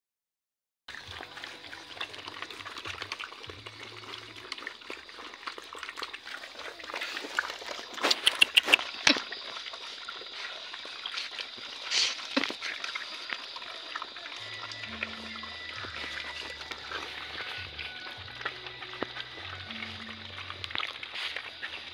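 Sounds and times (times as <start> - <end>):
puppies chewing and lapping: 0.9 - 21.9.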